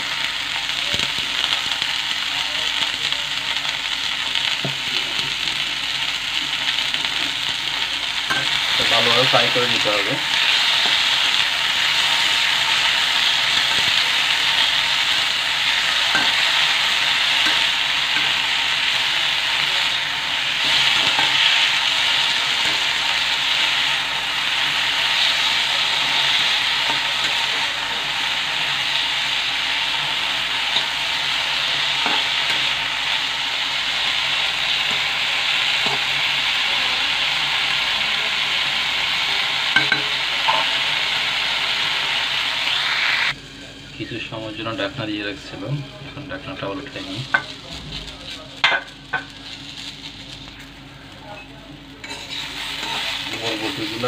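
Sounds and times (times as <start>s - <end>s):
vegetables sizzling in oil: 0.0s - 54.0s.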